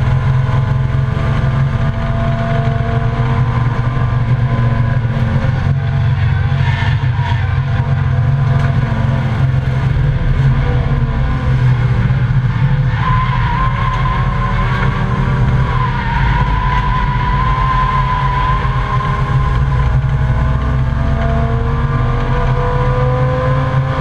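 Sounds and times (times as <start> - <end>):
race car engine running hard: 0.0 - 24.0
road and wind noise: 0.0 - 24.0.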